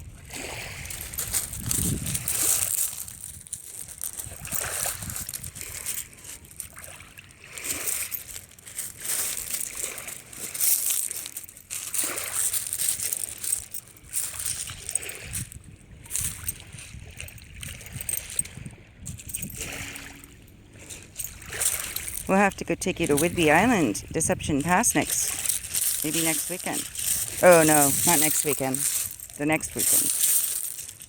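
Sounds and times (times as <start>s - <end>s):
shallow water sloshing and splashing: 0.0s - 22.3s, 23.1s - 31.0s.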